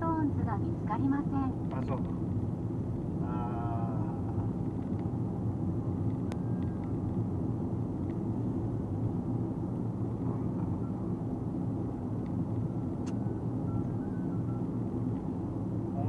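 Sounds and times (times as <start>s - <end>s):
low rumble of tyres on road: 0.0s - 16.0s.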